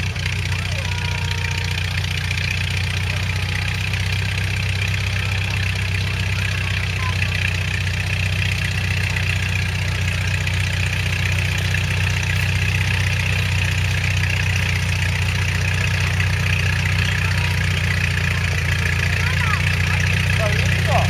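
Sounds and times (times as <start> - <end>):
crawler tractor engine droning: 0.0 - 21.0.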